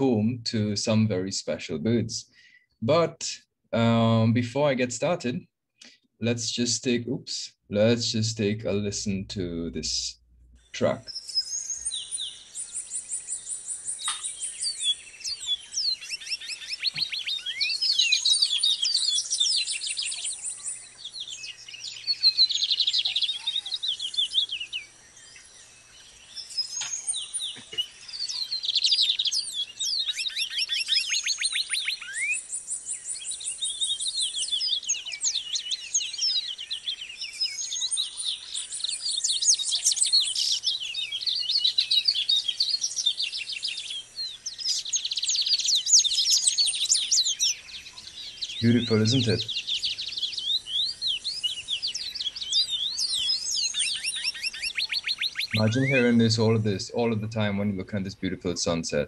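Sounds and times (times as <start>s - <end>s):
chorus of birds trilling: 0.0s - 0.3s, 10.6s - 59.0s.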